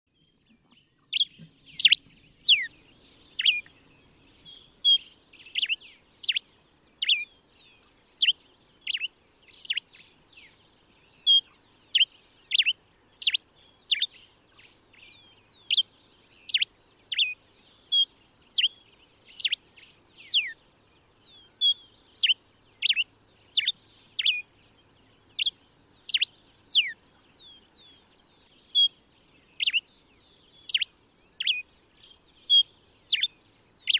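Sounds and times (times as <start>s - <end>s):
finch singing whistled notes: 0.1s - 33.9s.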